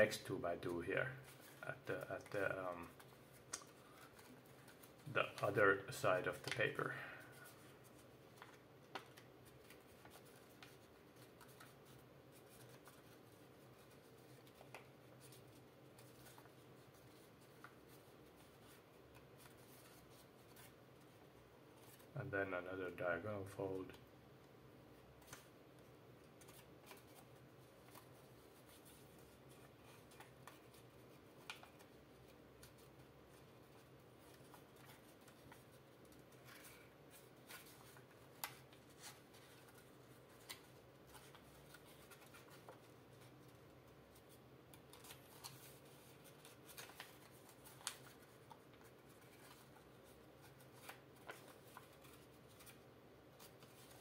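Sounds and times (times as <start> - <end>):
paper being creased and folded: 1.2 - 6.8, 7.4 - 22.1, 26.3 - 43.5, 44.1 - 54.0.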